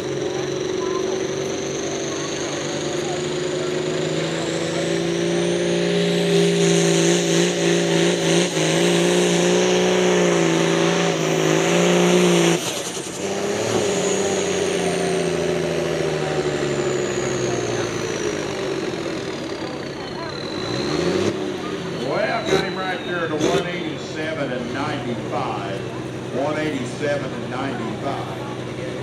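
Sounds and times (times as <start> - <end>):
engine running at high revs: 0.0 - 29.0.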